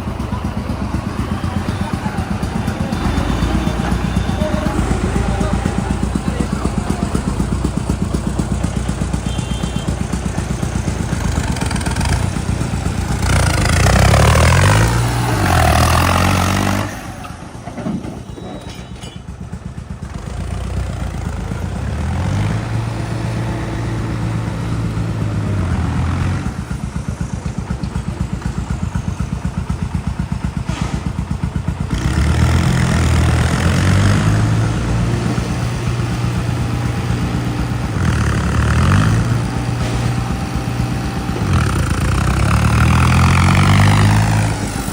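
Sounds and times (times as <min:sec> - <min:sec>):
tractor diesel engine revving: 0:00.0 - 0:44.9.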